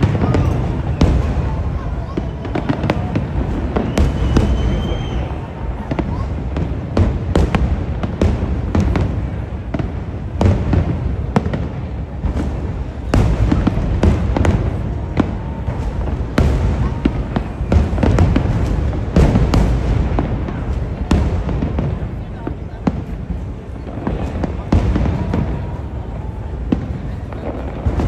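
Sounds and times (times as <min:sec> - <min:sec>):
fireworks cracking: 0:00.0 - 0:28.0
low booming: 0:00.0 - 0:28.0.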